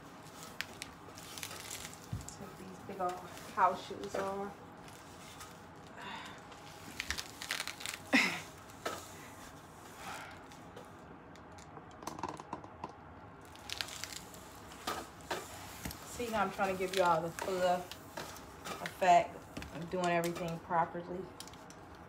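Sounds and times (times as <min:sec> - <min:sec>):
rustling and handling noises: 0:00.0 - 0:12.3, 0:13.4 - 0:22.0.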